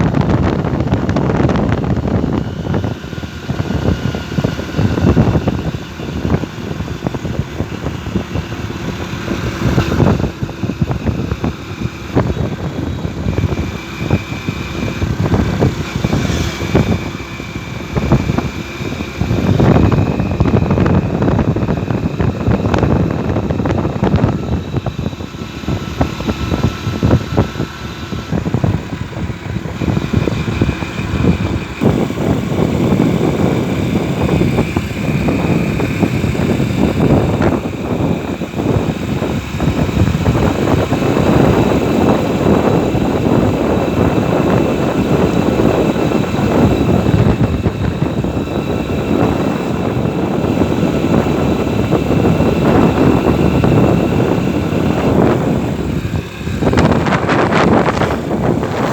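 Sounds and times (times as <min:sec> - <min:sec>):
motorcycle engine running: 0:00.0 - 0:58.9
wind rumble on microphone: 0:00.0 - 0:58.9.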